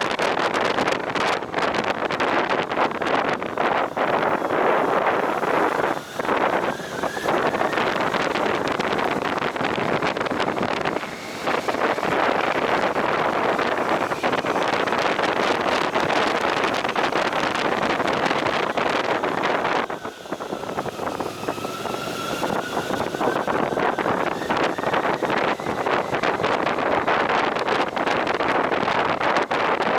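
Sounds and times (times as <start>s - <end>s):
motorcycle engine and road noise: 0.0s - 29.9s
wind buffeting microphone: 0.0s - 29.9s.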